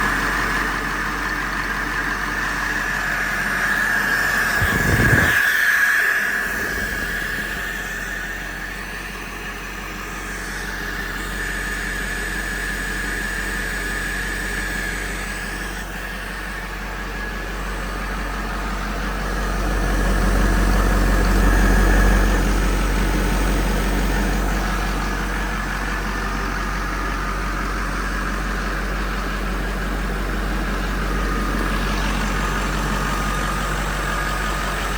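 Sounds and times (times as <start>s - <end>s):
diesel engine idling: 0.0s - 34.9s
high-pitched whine: 0.0s - 34.9s.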